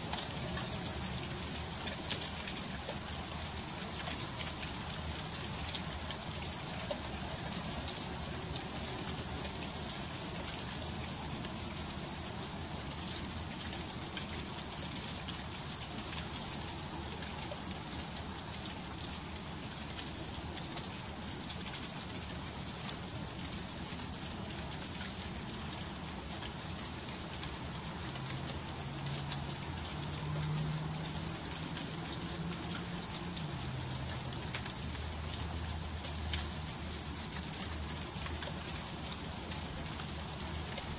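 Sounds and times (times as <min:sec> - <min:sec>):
freezing rain ticking on ice: 0:00.0 - 0:40.9.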